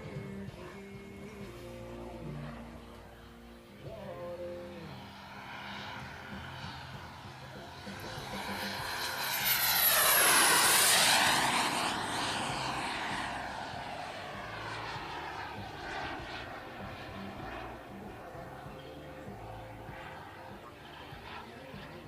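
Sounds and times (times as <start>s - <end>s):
jet turbine whine passing: 0.0s - 22.0s.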